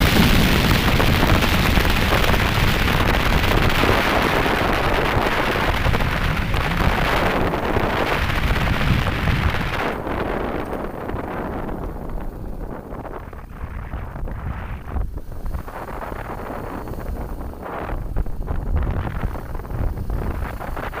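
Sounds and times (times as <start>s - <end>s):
low engine rumble: 0.0s - 21.0s
wind buffeting microphone: 0.0s - 21.0s.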